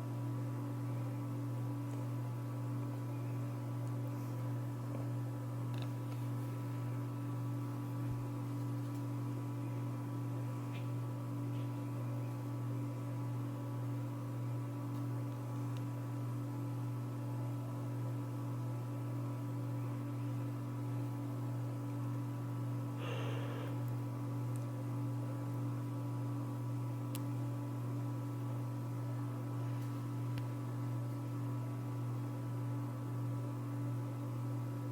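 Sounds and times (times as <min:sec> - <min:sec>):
ceiling fan motor humming: 0:00.0 - 0:34.9.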